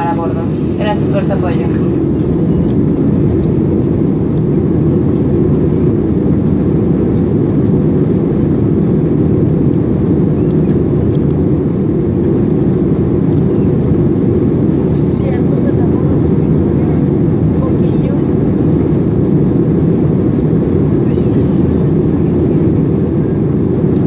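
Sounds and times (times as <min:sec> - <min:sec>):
airliner engine rumble: 0:00.0 - 0:24.0.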